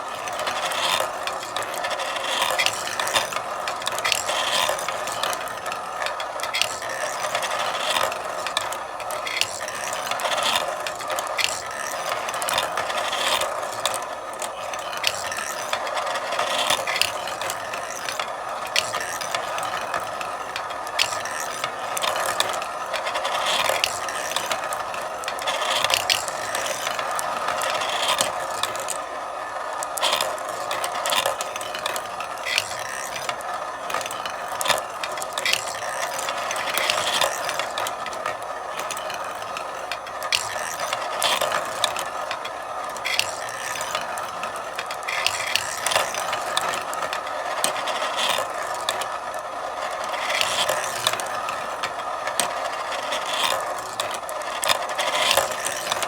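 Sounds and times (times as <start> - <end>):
marbles rolling and clattering: 0.2 - 56.0.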